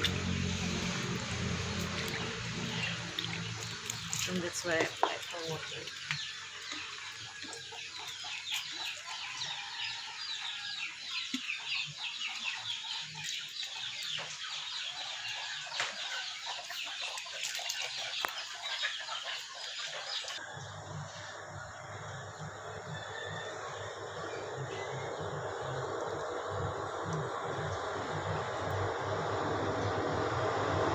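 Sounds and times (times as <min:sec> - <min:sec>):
chickens clucking and chirping: 0:02.0 - 0:30.9.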